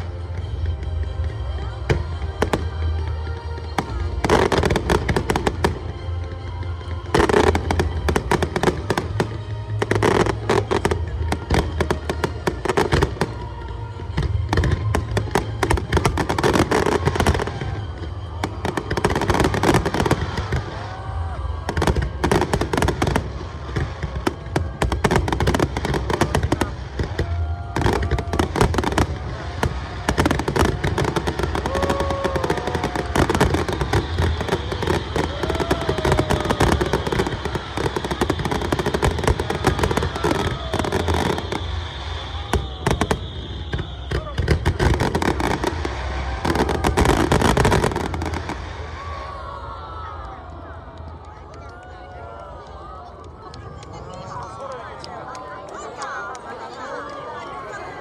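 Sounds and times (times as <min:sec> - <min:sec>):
fireworks crackling: 0:00.0 - 0:58.0.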